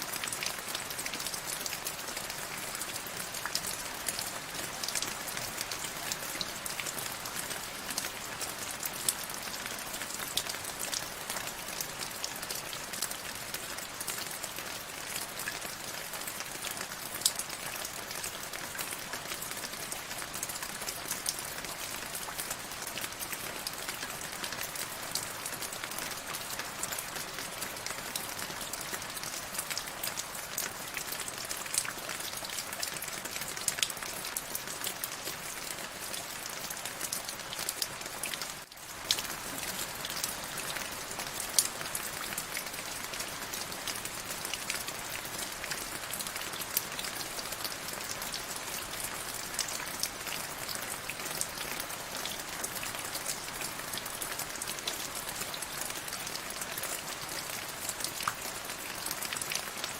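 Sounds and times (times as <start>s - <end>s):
rain drops ticking on a surface: 0.0s - 59.9s.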